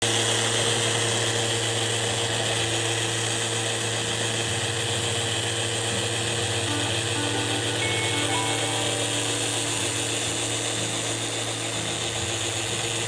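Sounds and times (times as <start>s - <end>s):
power tool running: 0.1s - 13.0s.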